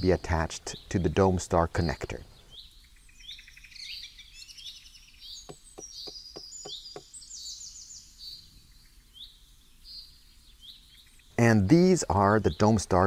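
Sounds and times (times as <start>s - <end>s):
small birds singing: 0.0s - 13.0s.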